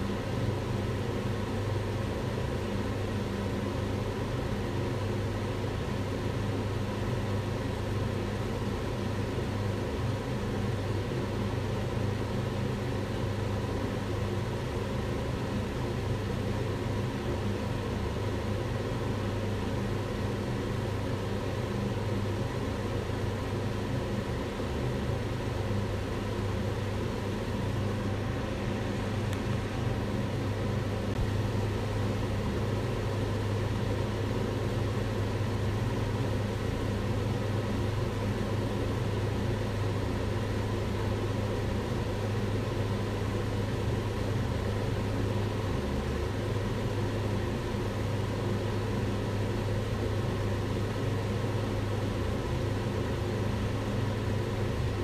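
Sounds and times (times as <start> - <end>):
range hood fan running: 0.0 - 55.0.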